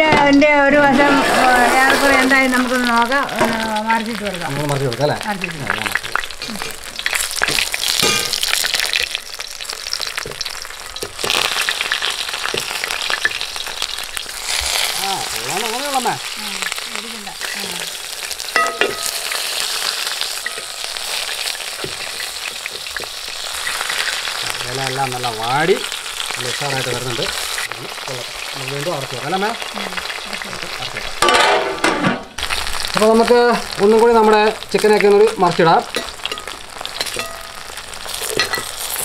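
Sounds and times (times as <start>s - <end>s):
parcels sizzling in hot oil: 0.0s - 39.0s.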